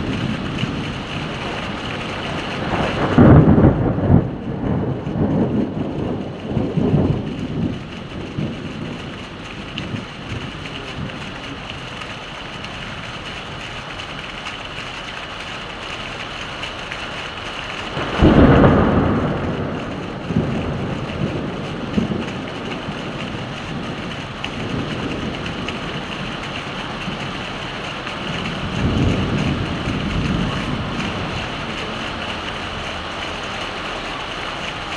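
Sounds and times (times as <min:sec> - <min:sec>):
low thunder rumble: 0:00.0 - 0:13.9, 0:17.6 - 0:34.9
heavy rain falling: 0:00.0 - 0:34.9
thunder clap and rumble: 0:00.0 - 0:34.9.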